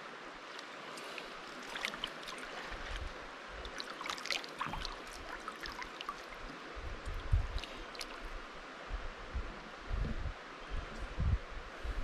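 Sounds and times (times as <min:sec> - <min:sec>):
river water flowing: 0:00.0 - 0:09.8.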